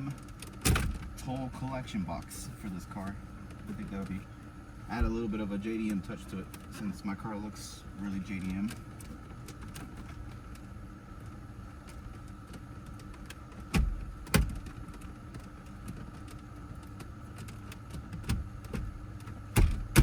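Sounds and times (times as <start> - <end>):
steady faint hum: 0.0 - 20.0.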